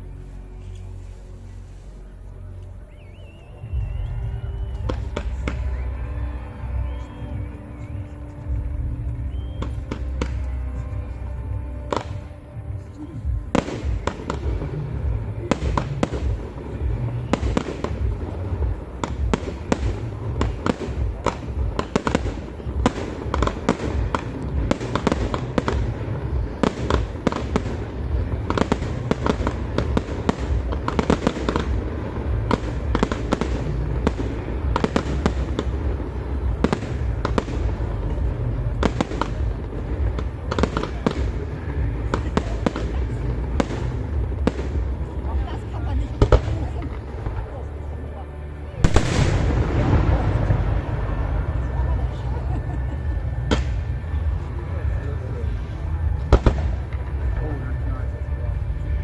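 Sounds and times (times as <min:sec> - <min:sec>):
low fireworks booms: 0:00.0 - 0:59.0
fireworks bangs and crackling: 0:03.2 - 0:59.0.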